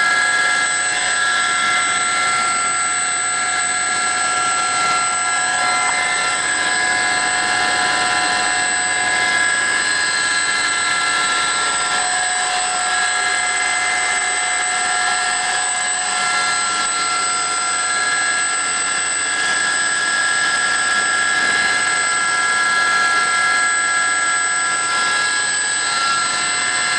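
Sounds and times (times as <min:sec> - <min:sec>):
high whining tones: 0:00.0 - 0:26.9.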